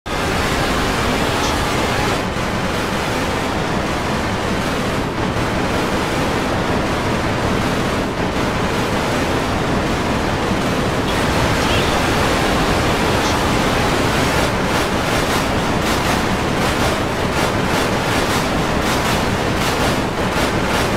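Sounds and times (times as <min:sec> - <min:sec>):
loud wash of blended noise: 0:00.1 - 0:20.9.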